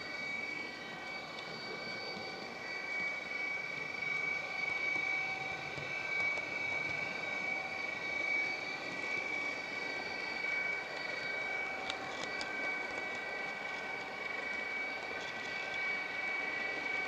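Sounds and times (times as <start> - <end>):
model train motor whine: 0.0 - 17.0.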